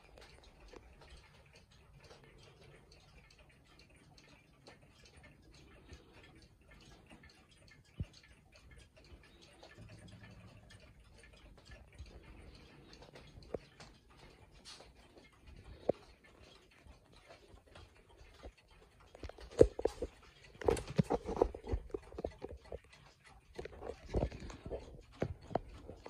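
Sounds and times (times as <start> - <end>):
pendulum clocks ticking: 0.0 - 26.0.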